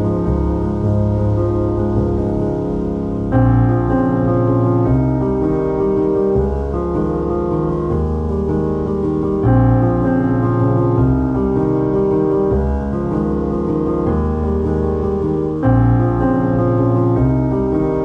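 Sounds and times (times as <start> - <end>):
calm piano music: 0.0 - 18.0.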